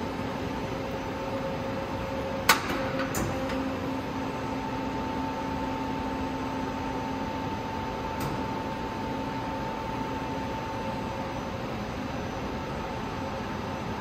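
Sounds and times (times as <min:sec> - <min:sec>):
machine hum with constant tones: 0:00.0 - 0:14.0.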